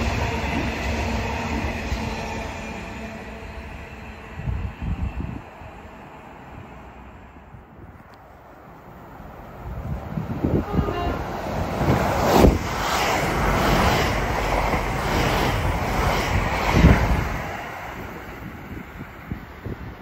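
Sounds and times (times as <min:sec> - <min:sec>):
train rushing past: 0:00.0 - 0:20.0.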